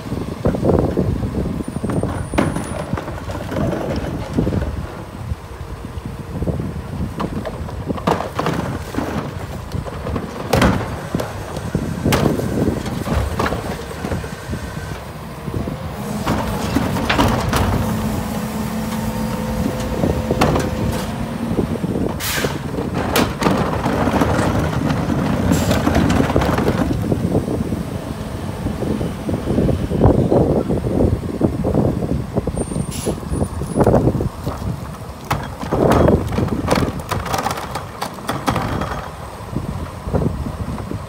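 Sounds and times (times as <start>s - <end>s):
diesel truck engine running: 0.0s - 41.0s
carts banging against truck: 0.4s - 5.3s, 6.6s - 27.6s, 33.0s - 41.0s.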